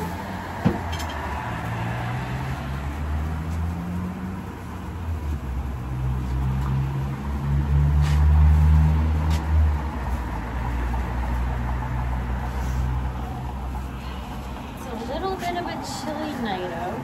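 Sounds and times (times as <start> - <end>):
motor vehicle engine rumble: 0.0 - 17.0.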